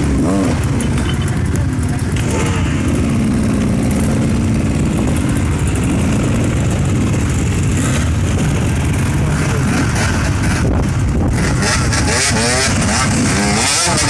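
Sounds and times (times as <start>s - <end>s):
motorcycle engine revving: 0.0s - 14.0s
motorcycle engines droning: 0.0s - 14.0s.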